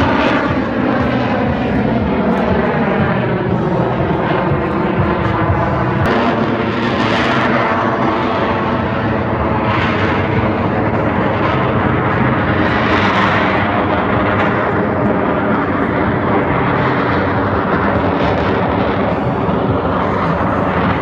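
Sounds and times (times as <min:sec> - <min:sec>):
airplane engine drone: 0:00.0 - 0:21.0.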